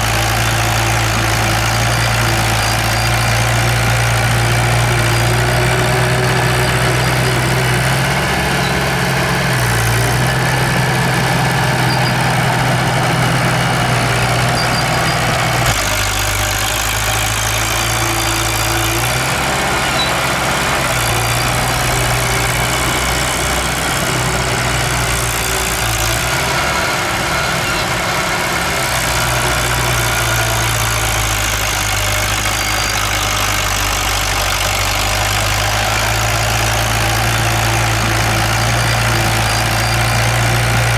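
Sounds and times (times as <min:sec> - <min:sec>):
diesel engine of heavy machinery: 0:00.0 - 0:40.9.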